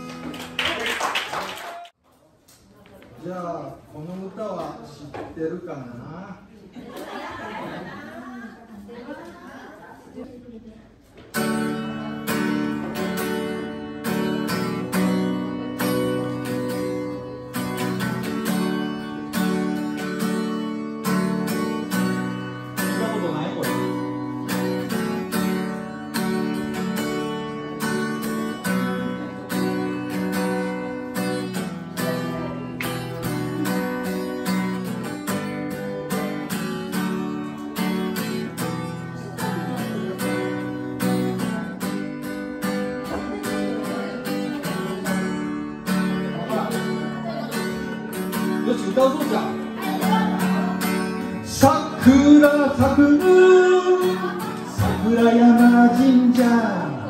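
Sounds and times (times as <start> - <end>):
acoustic guitar strumming: 11.3 - 57.0.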